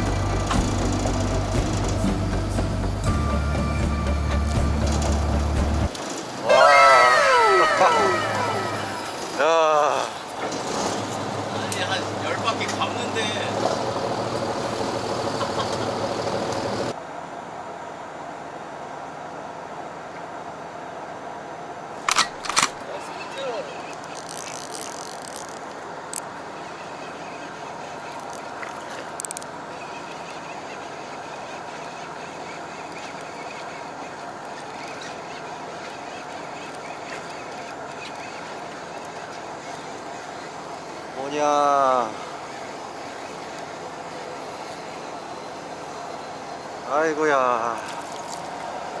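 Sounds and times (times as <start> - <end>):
boat engine and hull rumble: 0.0 - 17.0, 22.5 - 49.0.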